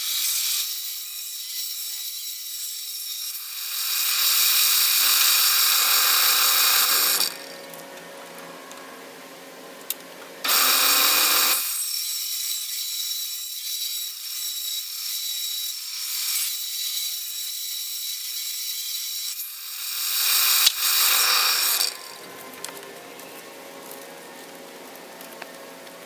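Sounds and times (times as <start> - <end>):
power tool cutting wood: 0.0 - 8.4, 10.4 - 24.5.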